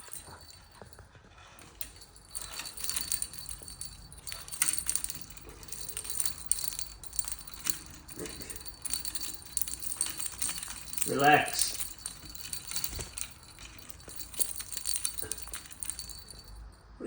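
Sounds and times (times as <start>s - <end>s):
parrot toy jingling and rattling: 0.0s - 16.8s.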